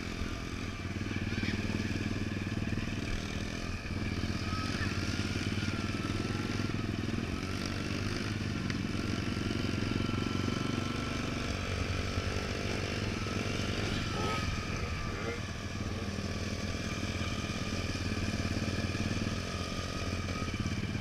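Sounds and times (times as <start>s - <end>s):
motorcycle engines running slowly: 0.0s - 21.0s.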